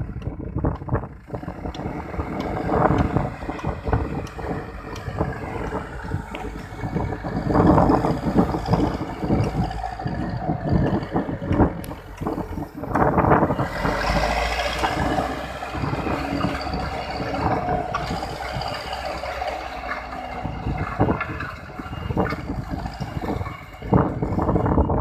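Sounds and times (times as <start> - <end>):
diesel engine running: 0.0 - 25.0
knocks and clatter: 0.0 - 25.0
wind noise on microphone: 0.0 - 25.0.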